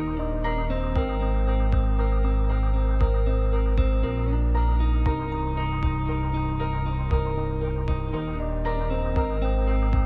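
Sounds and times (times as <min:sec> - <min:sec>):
ambient music with held chords: 0:00.0 - 0:10.0
deep bass: 0:00.0 - 0:10.0
soft regular beat: 0:01.0 - 0:08.4, 0:09.1 - 0:10.0.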